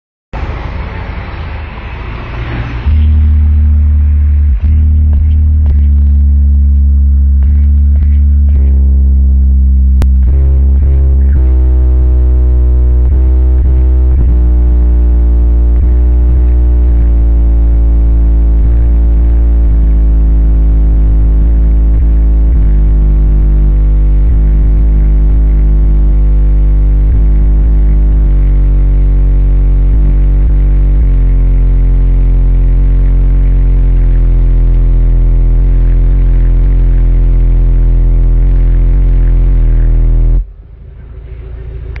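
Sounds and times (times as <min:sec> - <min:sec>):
bass-heavy music from car stereo: 0:02.3 - 0:42.0.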